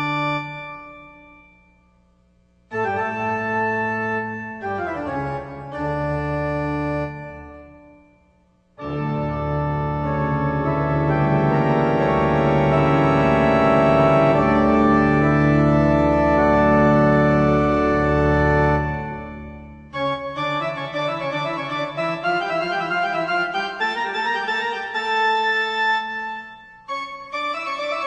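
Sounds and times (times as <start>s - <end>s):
sustained organ chord: 0.0s - 28.0s.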